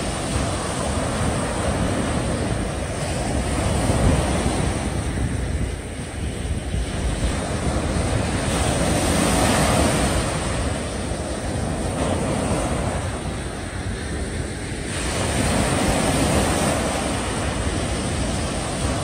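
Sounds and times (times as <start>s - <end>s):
small waves breaking on beach: 0.0s - 19.0s
wind buffeting microphone: 0.0s - 19.0s.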